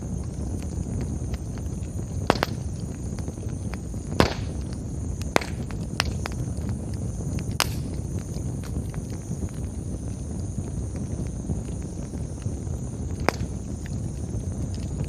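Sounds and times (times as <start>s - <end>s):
campfire crackling: 0.0s - 15.0s
low rumble of burning: 0.0s - 15.0s
sharp pops from fire: 0.0s - 15.0s.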